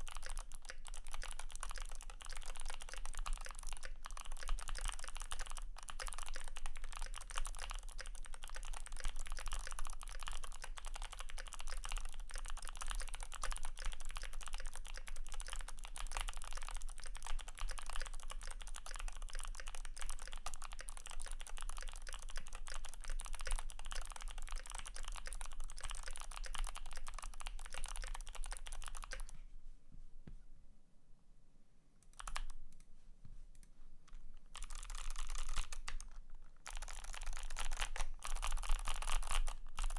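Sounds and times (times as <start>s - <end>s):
typing on clicky mechanical keyboard: 0.0s - 29.3s, 32.1s - 32.8s, 34.5s - 39.9s.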